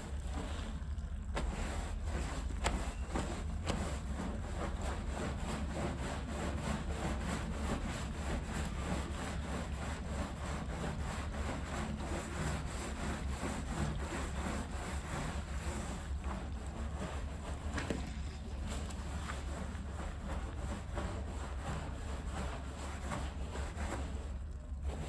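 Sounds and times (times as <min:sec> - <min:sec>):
brush scrubbing a rug: 0:00.0 - 0:25.0.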